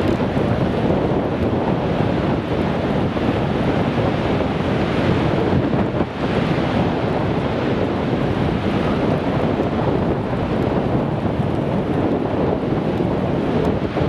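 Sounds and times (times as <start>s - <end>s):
blizzard wind buffeting microphone: 0.0s - 14.0s.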